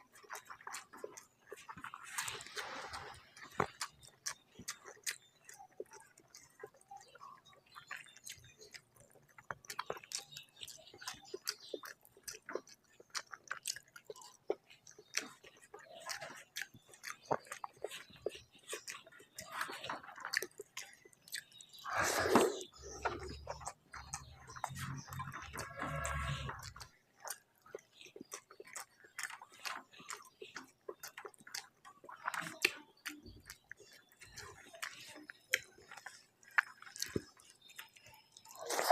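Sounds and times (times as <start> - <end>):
wet chewing and lip-smacking: 0.0 - 38.9.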